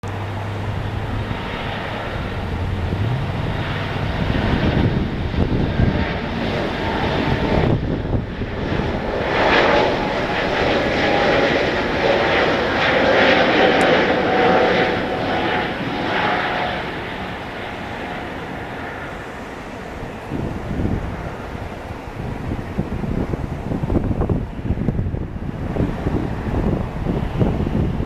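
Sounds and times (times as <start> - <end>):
jet engines roaring at takeoff: 0.0 - 28.0.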